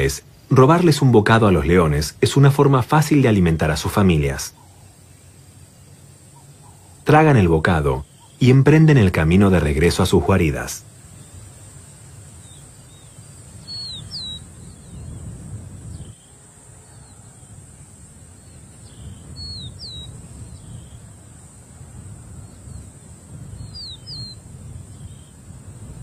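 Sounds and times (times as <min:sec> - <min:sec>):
faint high hiss: 0:00.0 - 0:26.0.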